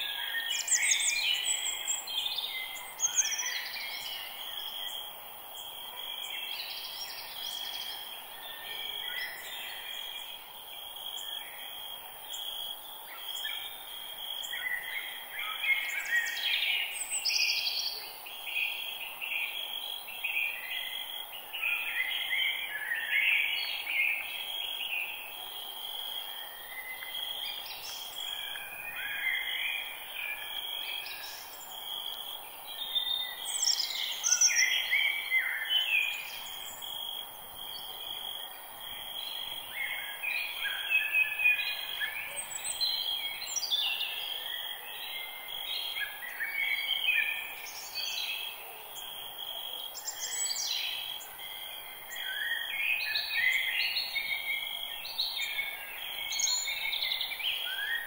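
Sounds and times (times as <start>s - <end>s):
constant hiss: 0.0s - 58.0s
insect drone: 0.0s - 58.0s.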